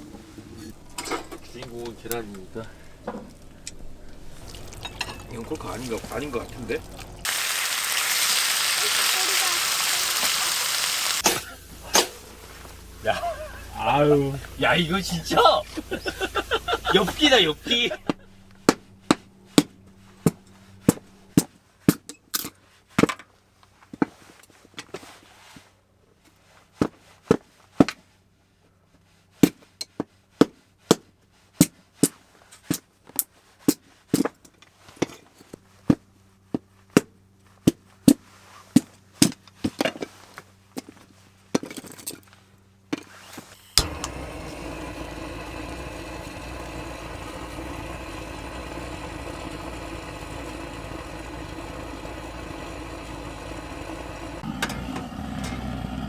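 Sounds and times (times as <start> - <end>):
steady mechanical hum: 0.0 - 7.4, 11.1 - 25.0, 32.1 - 56.0.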